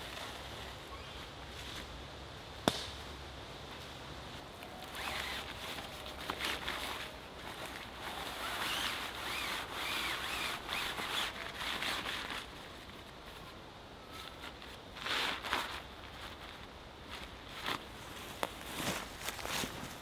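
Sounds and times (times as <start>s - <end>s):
hammock fabric rustling: 0.0s - 2.0s, 3.7s - 20.0s.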